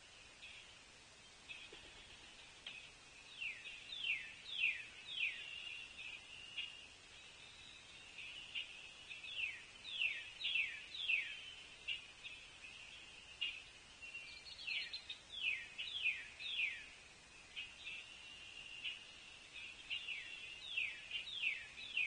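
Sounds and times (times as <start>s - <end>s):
distant birds or insects chorus: 0.0s - 22.0s.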